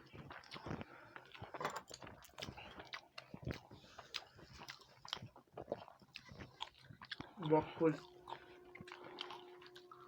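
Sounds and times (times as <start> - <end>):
chewing: 0.0 - 10.0.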